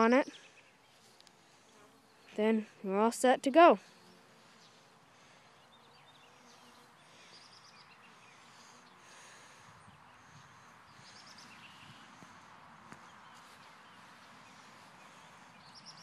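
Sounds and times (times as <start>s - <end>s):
birds chirping and trilling: 0.0s - 2.7s, 4.0s - 16.0s.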